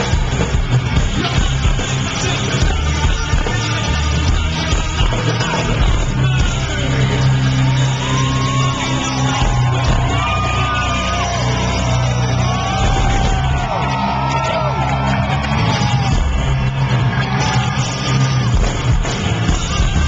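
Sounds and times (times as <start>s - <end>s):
metal band playing live: 0.0s - 20.0s.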